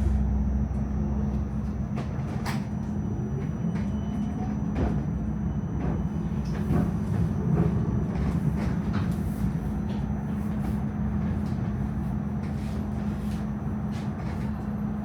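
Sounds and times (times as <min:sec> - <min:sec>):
tram rumbling along tracks: 0:00.0 - 0:15.0.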